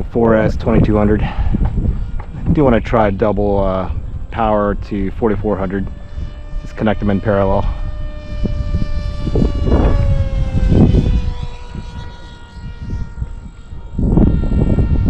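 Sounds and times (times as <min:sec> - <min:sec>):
wind rumbling on microphone: 0:00.0 - 0:15.0
model plane motor whine: 0:00.7 - 0:15.0.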